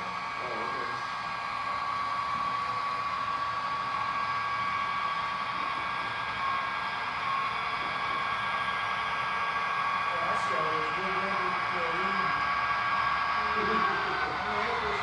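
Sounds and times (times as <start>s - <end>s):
high motor whine: 0.0s - 15.0s
model train whirring: 0.0s - 15.0s.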